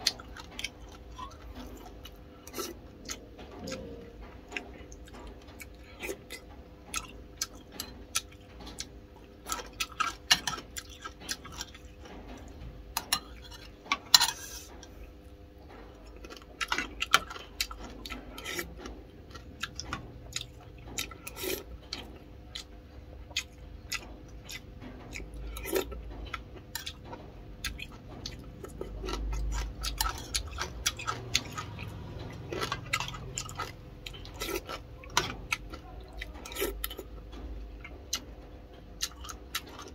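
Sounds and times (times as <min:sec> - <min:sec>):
chewing and eating: 0:00.0 - 0:39.9.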